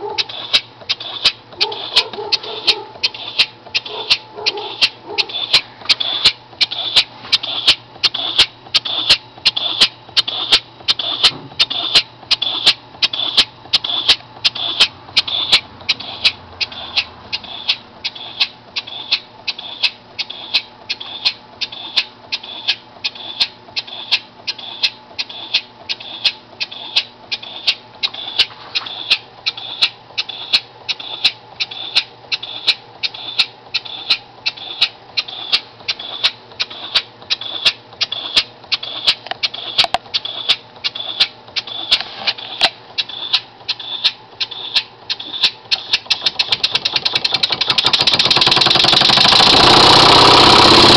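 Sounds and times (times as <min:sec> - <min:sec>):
air motor exhaust puffs: 0:00.0 - 0:50.9.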